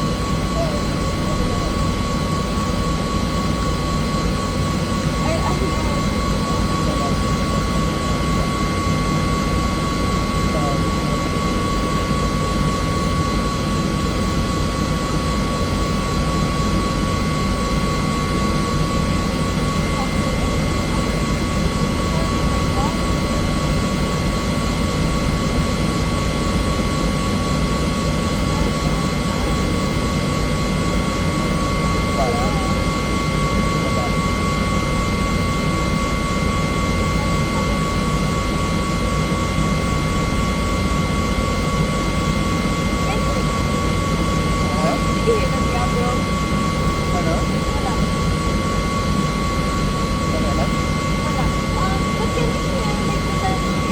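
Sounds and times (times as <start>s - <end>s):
helicopter rotor and turbine rumble: 0.0s - 53.9s
high turbine whine: 0.0s - 53.9s.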